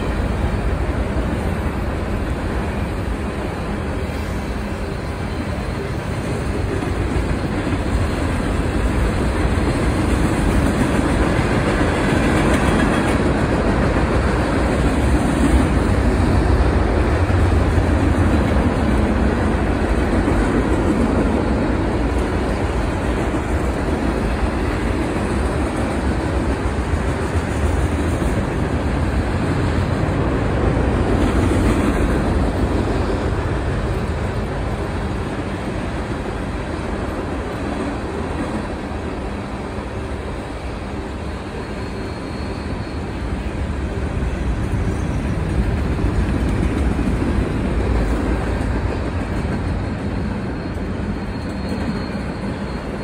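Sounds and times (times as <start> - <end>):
steel wheels rumbling on rails: 0.0 - 53.0.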